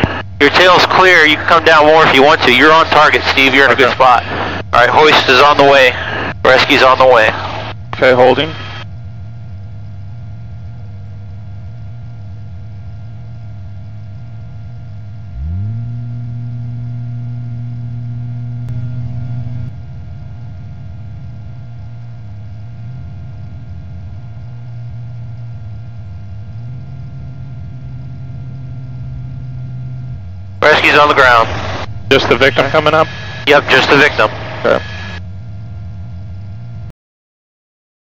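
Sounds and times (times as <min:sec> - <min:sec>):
helicopter engine and rotor hum: 0:00.0 - 0:15.3, 0:18.7 - 0:36.9
hoist motor whine: 0:00.0 - 0:36.9.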